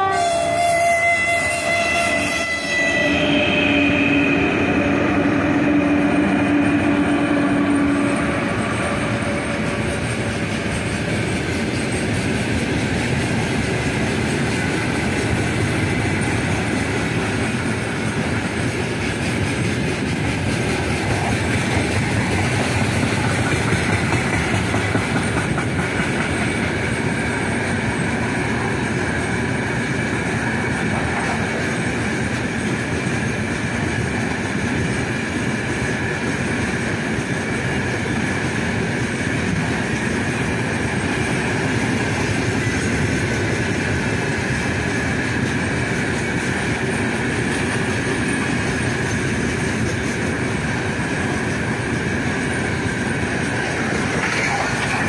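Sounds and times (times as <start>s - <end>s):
freight train wheels rumbling: 0.0s - 55.0s
locomotive whine: 0.0s - 55.0s.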